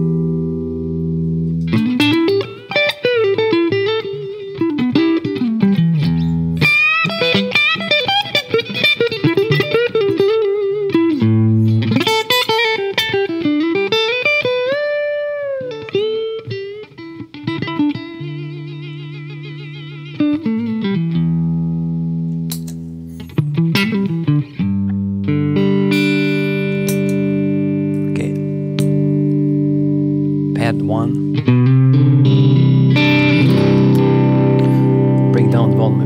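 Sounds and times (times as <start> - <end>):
electric guitar lead line: 0.0 - 36.0.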